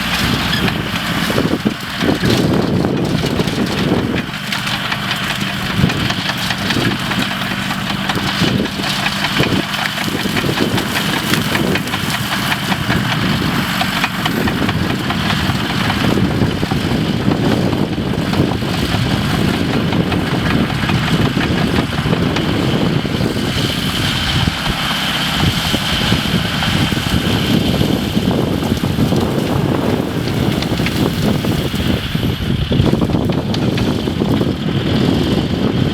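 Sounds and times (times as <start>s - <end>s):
machinery engine running: 0.0s - 35.9s.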